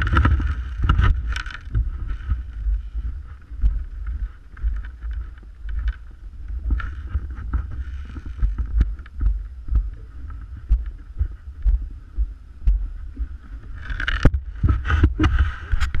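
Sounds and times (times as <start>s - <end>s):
sled runners scraping: 0.0s - 11.5s, 13.3s - 16.0s
low rumble through sled: 0.0s - 16.0s.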